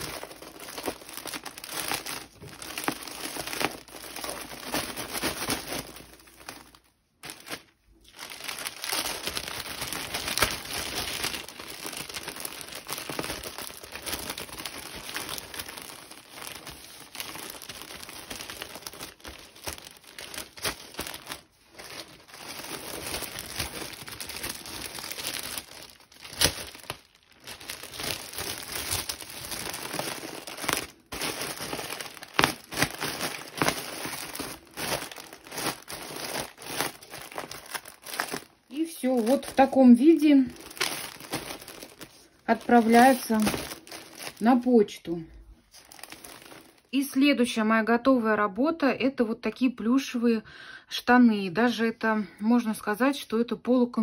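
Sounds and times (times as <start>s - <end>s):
plastic bag crinkling: 0.0s - 47.3s.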